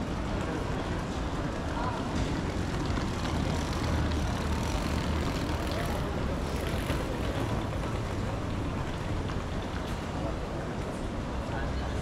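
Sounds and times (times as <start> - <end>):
general crowd hubbub: 0.0 - 12.0
low street rumble: 0.0 - 12.0.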